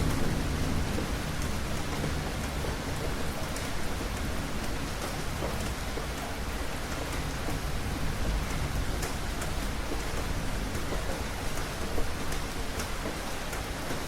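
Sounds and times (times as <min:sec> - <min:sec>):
rain hissing: 0:00.0 - 0:12.8.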